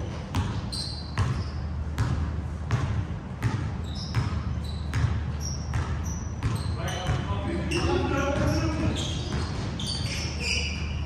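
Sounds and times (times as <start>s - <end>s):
sneakers squeaking: 0.0s - 11.0s
basketball bouncing on hardwood floor: 0.3s - 10.3s.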